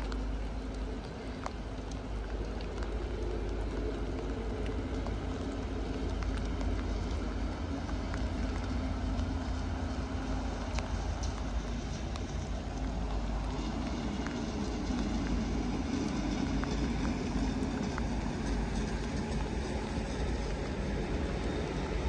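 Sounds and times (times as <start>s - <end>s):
distant diesel locomotive running: 0.0s - 22.0s.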